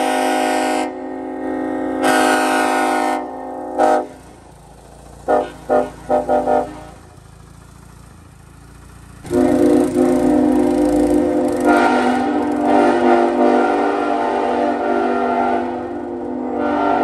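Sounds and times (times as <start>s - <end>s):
train horn chord: 0.0s - 4.5s, 5.2s - 7.2s, 9.2s - 17.0s.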